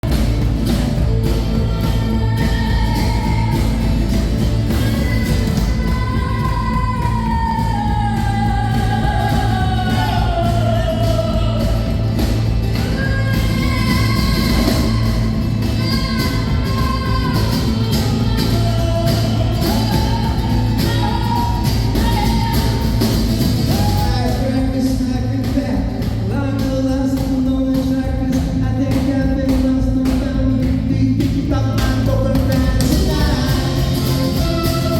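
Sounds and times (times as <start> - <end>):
live rock music: 0.0 - 34.9.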